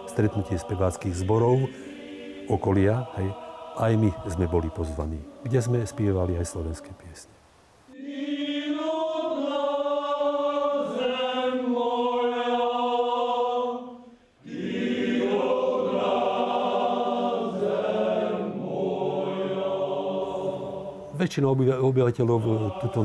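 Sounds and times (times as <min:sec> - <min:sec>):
choir singing held notes: 0:00.0 - 0:07.3, 0:07.9 - 0:23.0.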